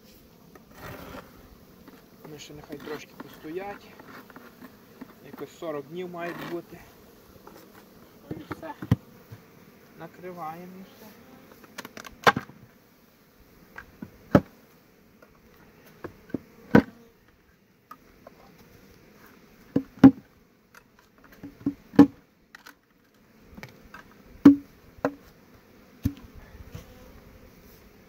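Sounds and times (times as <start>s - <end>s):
bees buzzing: 0.0s - 28.0s.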